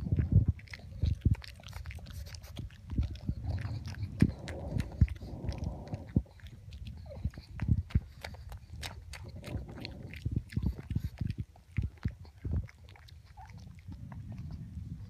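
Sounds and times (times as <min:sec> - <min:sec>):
dog chewing a treat: 0:00.0 - 0:15.0.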